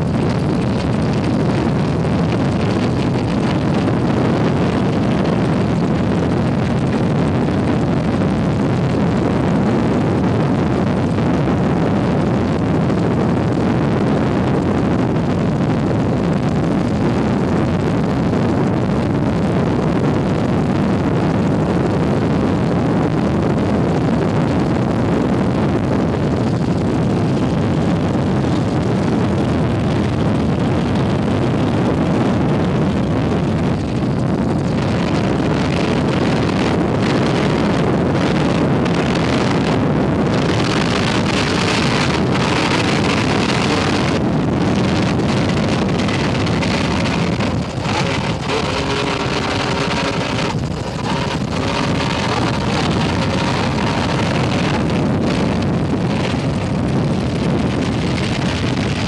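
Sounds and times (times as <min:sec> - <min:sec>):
powerboat engines roaring: 0:00.0 - 0:59.0
wind rush on microphone: 0:00.0 - 0:59.0.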